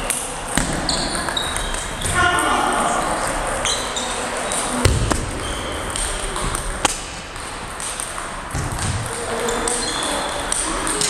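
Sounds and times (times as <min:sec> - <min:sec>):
faint chatter: 0:00.0 - 0:11.0.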